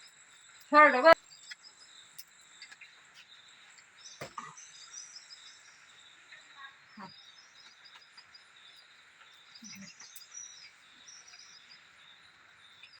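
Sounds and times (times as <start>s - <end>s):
bird chirps: 0.0s - 13.0s
insect drone: 0.0s - 13.0s.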